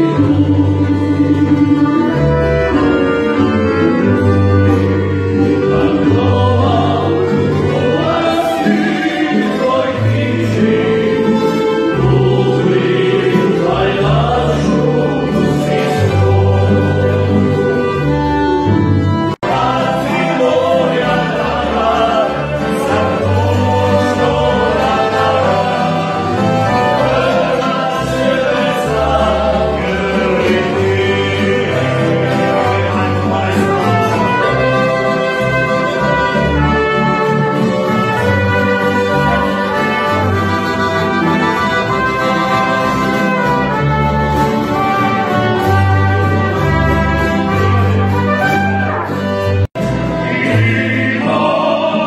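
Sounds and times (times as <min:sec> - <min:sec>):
live folk band playing dance tune: 0:00.0 - 0:52.0.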